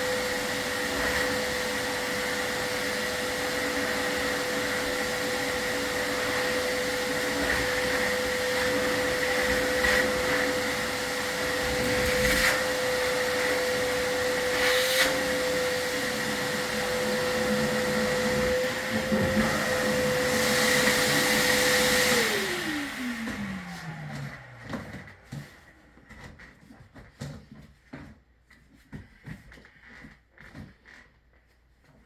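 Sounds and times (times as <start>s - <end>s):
vacuum cleaner running: 0.0s - 26.4s.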